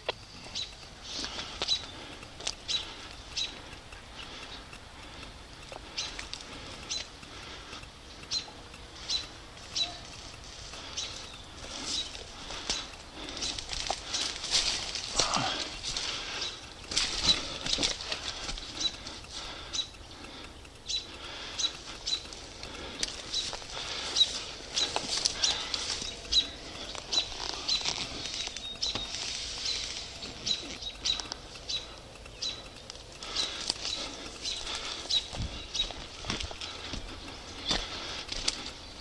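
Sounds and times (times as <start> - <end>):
footsteps with sharp clicks: 0.0 - 39.0.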